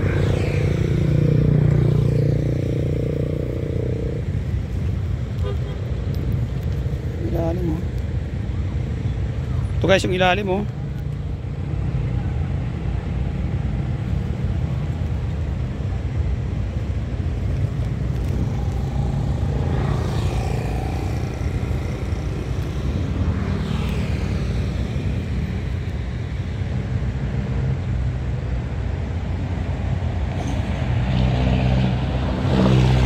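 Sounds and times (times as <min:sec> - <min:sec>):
traffic rumble: 0:00.0 - 0:33.0
vehicles passing by: 0:00.0 - 0:33.0.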